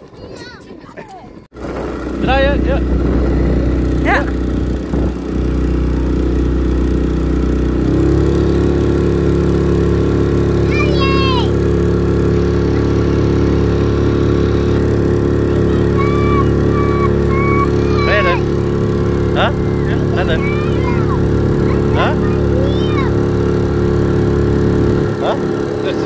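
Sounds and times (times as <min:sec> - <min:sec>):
motorboat engine running: 0:01.5 - 0:26.0.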